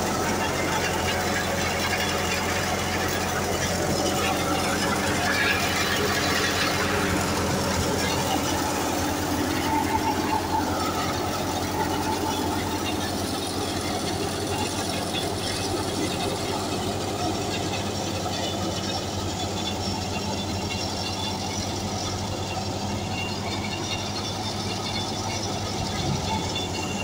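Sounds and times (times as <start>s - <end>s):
low engine hum: 0.0s - 27.0s
thresher blower running: 0.0s - 27.0s.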